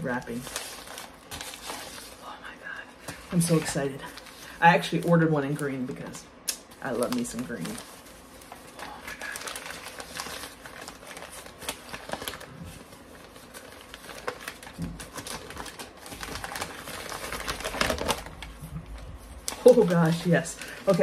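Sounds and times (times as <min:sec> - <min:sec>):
paper crinkling and tearing: 0:00.0 - 0:02.4, 0:03.0 - 0:05.7, 0:06.6 - 0:21.0.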